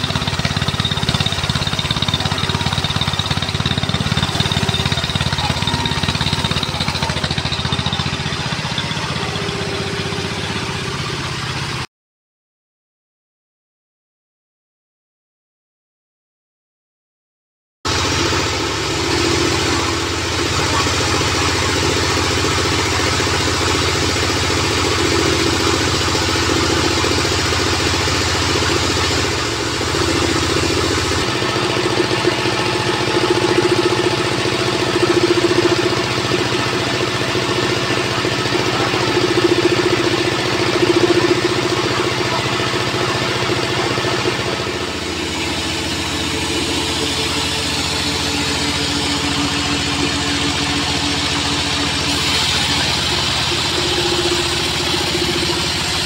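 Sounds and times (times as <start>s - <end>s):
sawmill engine idling: 0.0s - 11.9s, 17.9s - 56.0s.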